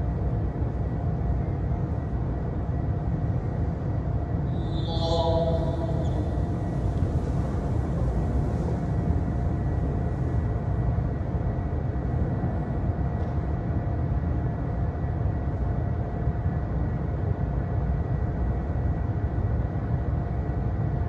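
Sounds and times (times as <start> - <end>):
electric fans rumbling: 0.0 - 21.0
faint steady hum: 0.0 - 21.0.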